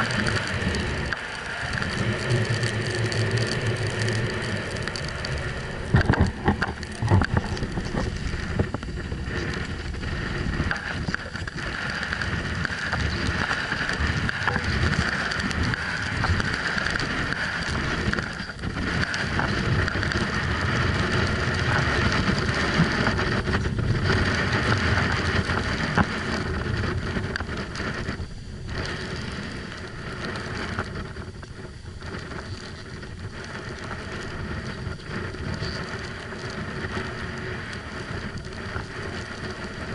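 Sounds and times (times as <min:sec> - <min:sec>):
snowboard scraping on snow: 0:00.0 - 0:39.9
wind across microphone: 0:00.0 - 0:39.9.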